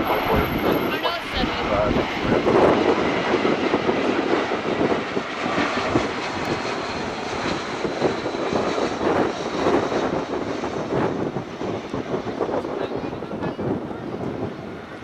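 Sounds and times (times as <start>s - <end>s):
jet airliner engines running: 0.0s - 15.0s.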